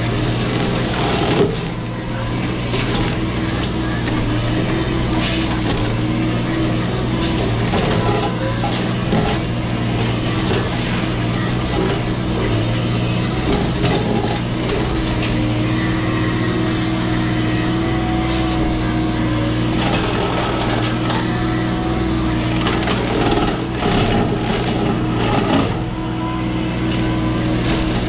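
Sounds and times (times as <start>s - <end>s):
brush cutter crushing wood: 0.0s - 28.0s
diesel engine running: 0.0s - 28.0s.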